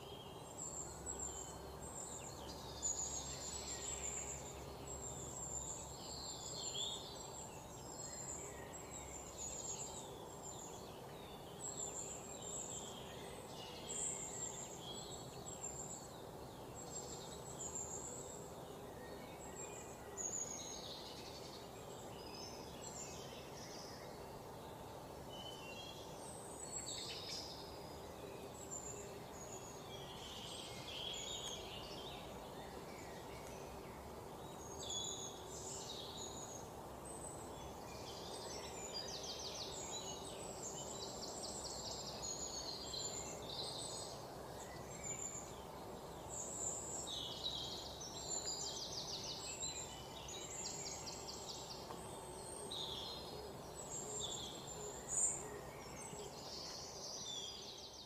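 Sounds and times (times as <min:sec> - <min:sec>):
small birds chirping and trilling: 0:00.0 - 0:58.0
steady background hiss: 0:00.0 - 0:58.0.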